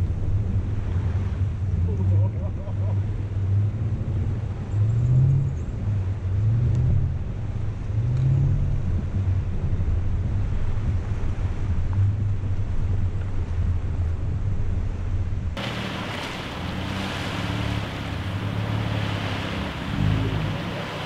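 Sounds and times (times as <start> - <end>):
engine running at low speed: 0.0 - 21.0
water washing around vehicle: 0.0 - 21.0.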